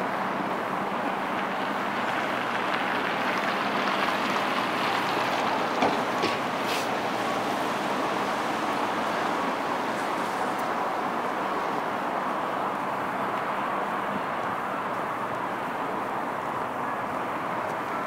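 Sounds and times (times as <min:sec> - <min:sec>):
distant traffic hiss: 0:00.0 - 0:18.0.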